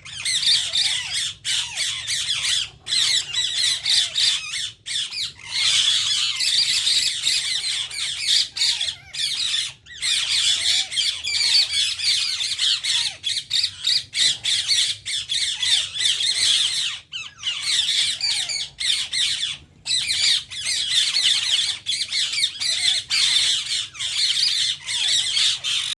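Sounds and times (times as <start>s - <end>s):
parakeets chattering and squawking: 0.0s - 26.0s.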